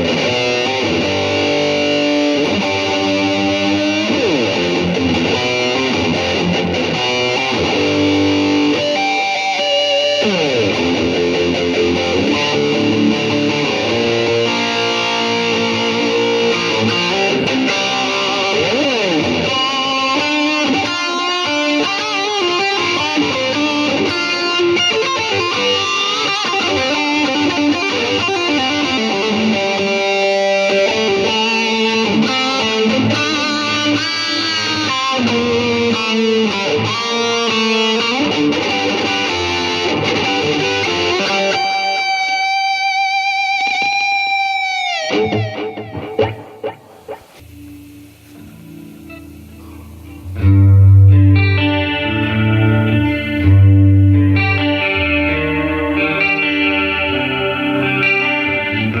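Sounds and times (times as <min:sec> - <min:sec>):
electric guitar lead playing: 0:00.0 - 0:59.0.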